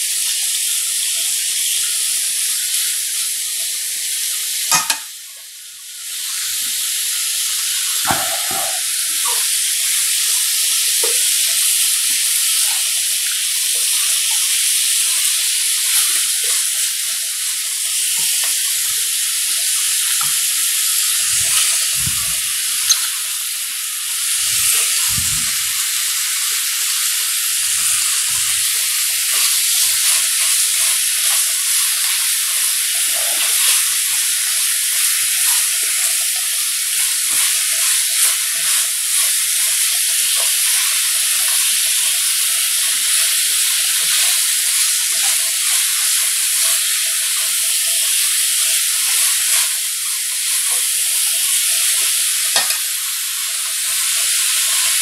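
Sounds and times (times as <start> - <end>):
meat sizzling on a griddle: 0.0 - 55.0.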